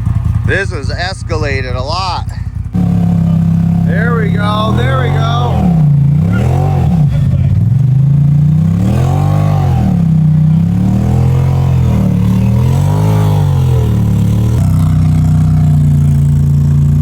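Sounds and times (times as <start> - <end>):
utility vehicle engine revving: 0.0 - 17.0.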